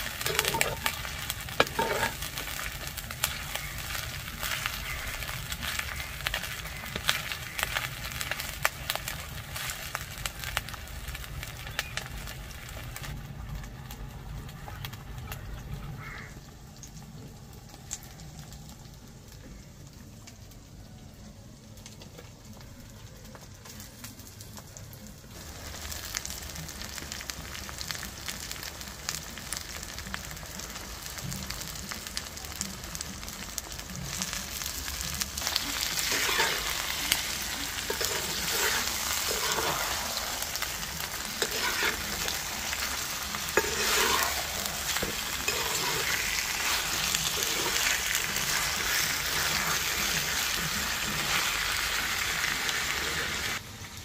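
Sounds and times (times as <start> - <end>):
hot oil sizzling and crackling: 0.0 - 54.0.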